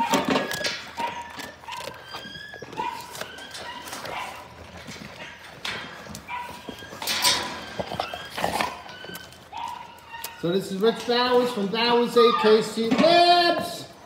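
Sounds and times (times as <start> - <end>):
wire kennel pen rattling: 0.0 - 13.4
puppies whimpering: 0.0 - 14.0.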